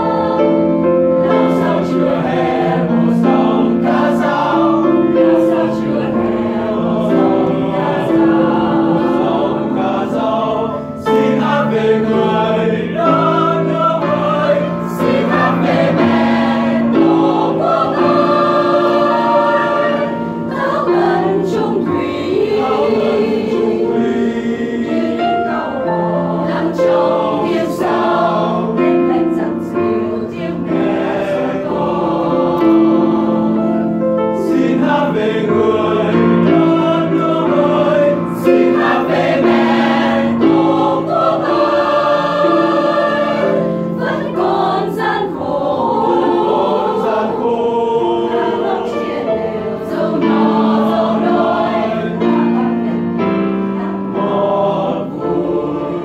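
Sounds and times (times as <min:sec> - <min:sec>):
mixed choir singing: 0:00.0 - 0:56.0
piano accompaniment: 0:00.0 - 0:56.0.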